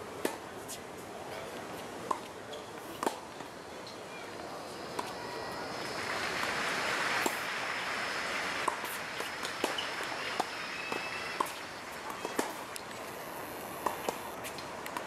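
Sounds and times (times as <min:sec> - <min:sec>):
tennis balls struck and bouncing: 0:00.2 - 0:00.8, 0:01.4 - 0:05.2, 0:05.8 - 0:07.5, 0:08.6 - 0:15.0.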